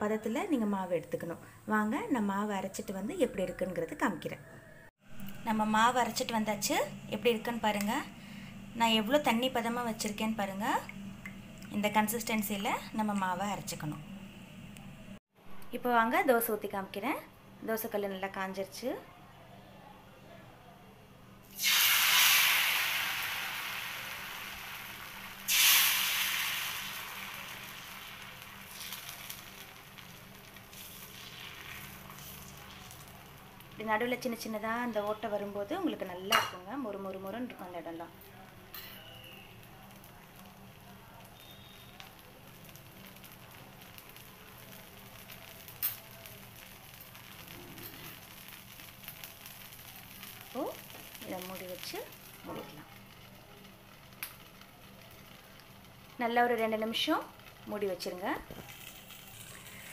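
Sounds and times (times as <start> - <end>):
batter sizzling on hot pan: 5.1 - 15.2, 21.4 - 59.9.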